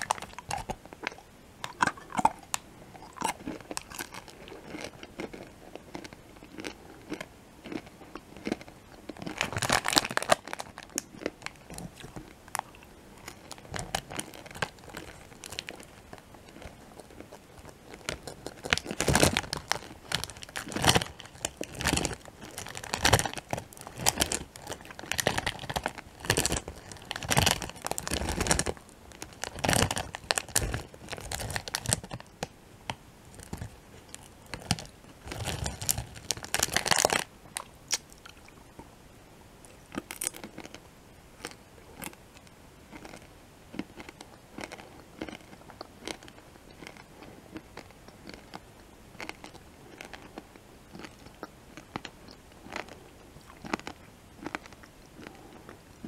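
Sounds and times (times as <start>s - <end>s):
crunching and chewing candy: 0.0s - 38.9s, 39.6s - 56.0s.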